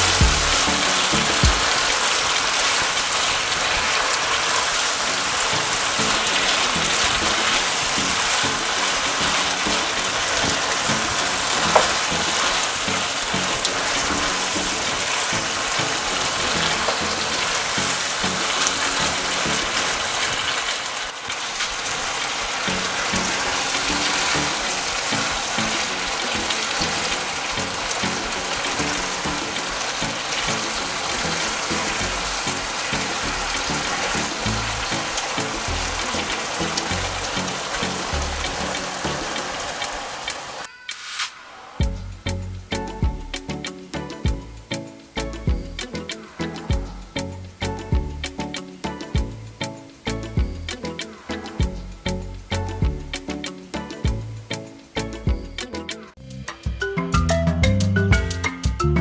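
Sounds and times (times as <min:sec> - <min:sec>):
shrimp sizzling in a pan: 0:00.0 - 0:55.6.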